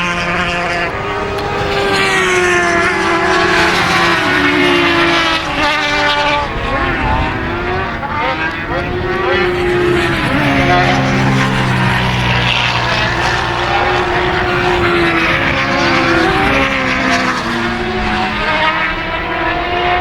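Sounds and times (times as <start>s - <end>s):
racing motorcycle engines: 0.0s - 20.0s.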